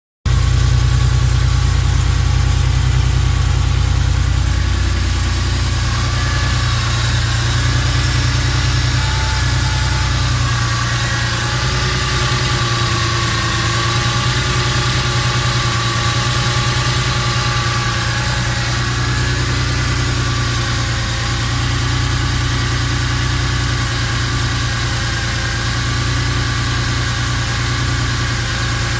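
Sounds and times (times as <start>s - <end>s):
car engine idling: 0.3s - 28.9s.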